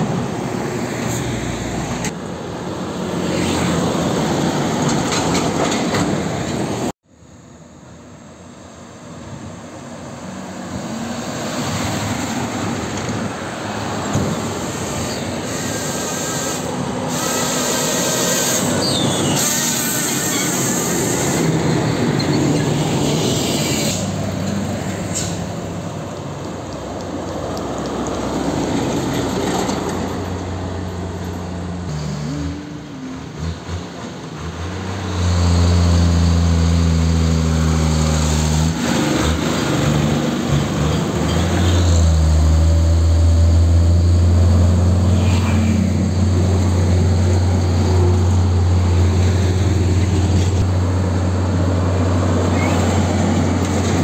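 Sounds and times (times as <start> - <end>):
truck engine drone: 6.3 - 54.0
heavy trucks driving past: 8.4 - 54.0.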